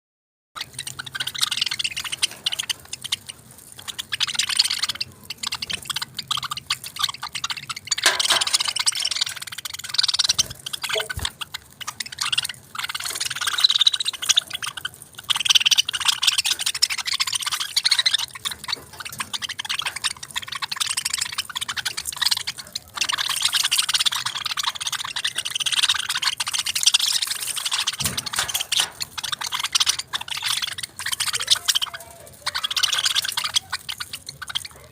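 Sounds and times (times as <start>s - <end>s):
parrots chattering and chirping: 0.6s - 34.9s.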